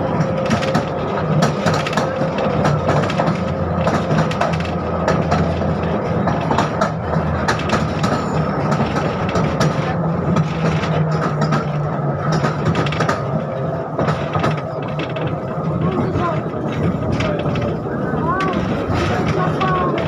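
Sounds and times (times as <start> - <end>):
rattles and clicks of tram car: 0.0 - 20.0
tram motor hum: 0.0 - 20.0.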